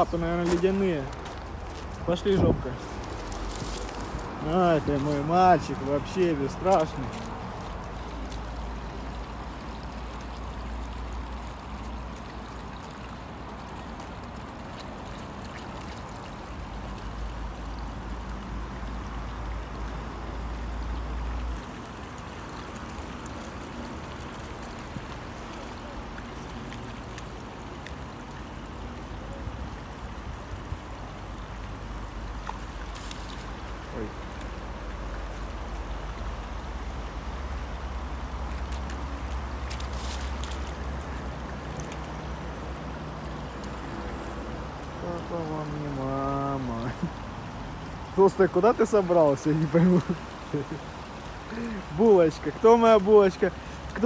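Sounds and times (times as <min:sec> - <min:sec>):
water trickling through culvert: 0:00.0 - 0:54.0.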